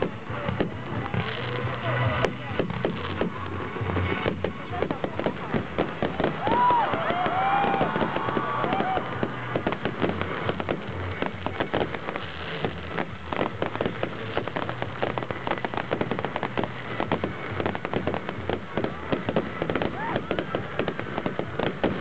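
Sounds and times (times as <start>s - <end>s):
fireworks popping and banging: 0.0s - 22.0s.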